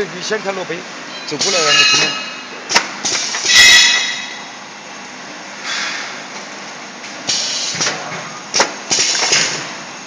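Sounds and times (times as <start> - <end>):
steady machine noise: 0.0 - 10.0.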